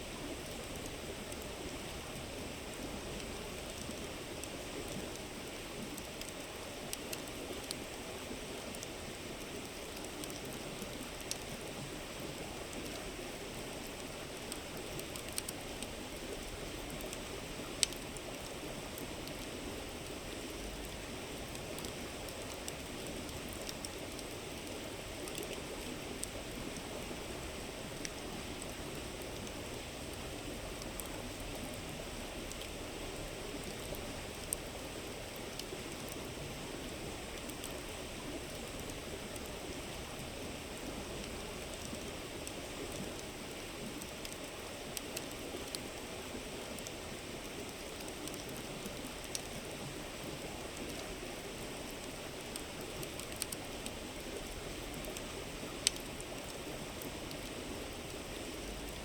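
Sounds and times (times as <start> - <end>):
campfire wood crackling: 0.1 - 59.0.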